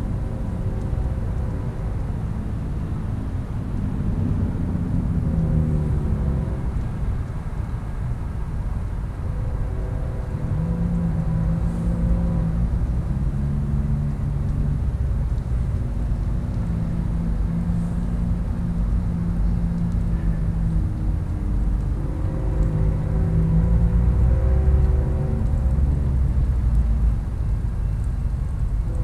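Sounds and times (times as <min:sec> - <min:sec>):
diesel locomotive rumble: 0:00.0 - 0:29.0.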